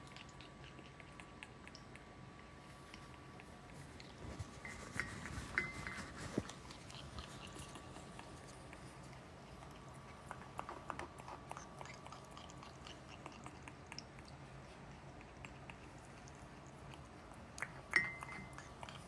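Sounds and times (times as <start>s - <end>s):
faint steady hum: 0.0s - 19.0s
parrot beak clicking and crunching: 0.0s - 19.0s.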